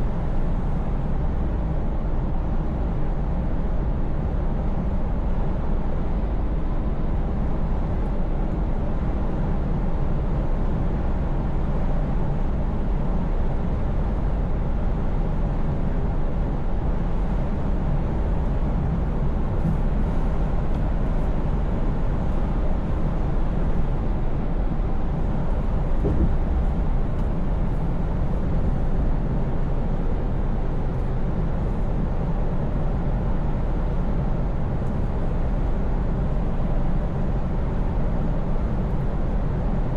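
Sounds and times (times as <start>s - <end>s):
road and tyre noise: 0.0s - 39.9s
truck engine hum: 6.1s - 39.9s.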